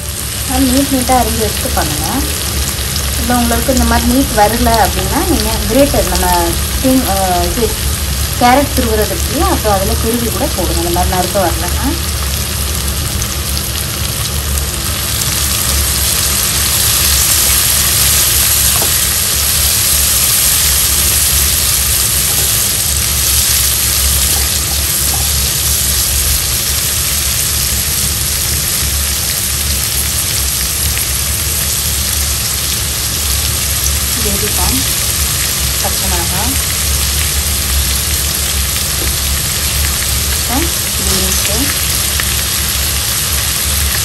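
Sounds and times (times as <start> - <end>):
vegetables sizzling in hot oil: 0.0 - 44.0.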